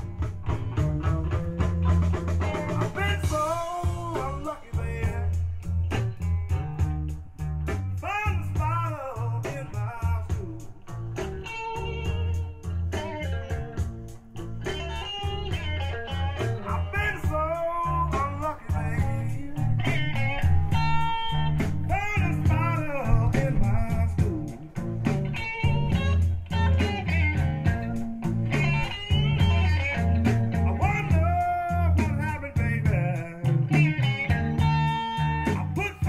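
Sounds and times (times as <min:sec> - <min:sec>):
electric guitar bending notes: 0:00.0 - 0:36.0
heavy bass: 0:00.0 - 0:36.0
steady drum beat: 0:00.0 - 0:36.0.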